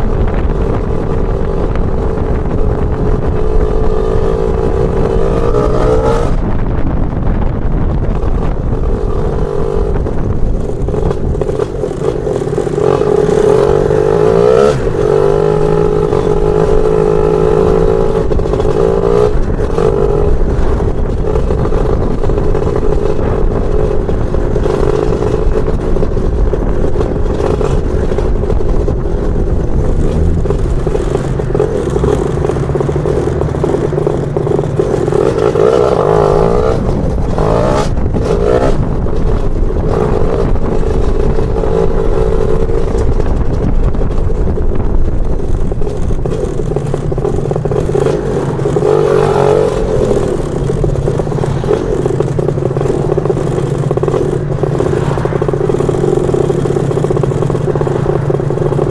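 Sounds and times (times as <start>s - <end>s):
scooter engine running: 0.0s - 58.9s.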